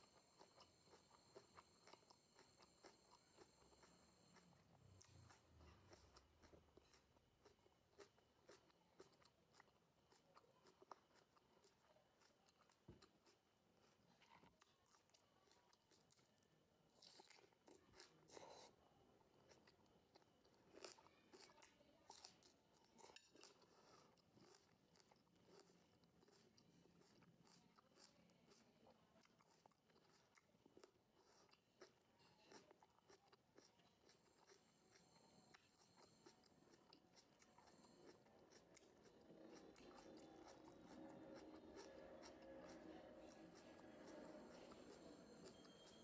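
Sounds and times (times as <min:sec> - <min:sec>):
chewing tomato: 0:00.0 - 0:46.0.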